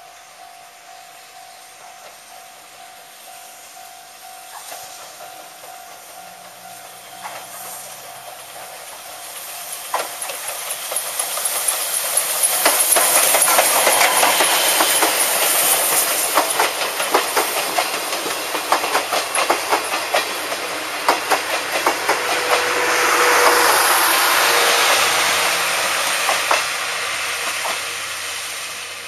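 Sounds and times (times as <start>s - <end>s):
steam hissing: 0.0s - 29.0s
wheels clacking over rail joints: 4.5s - 29.0s.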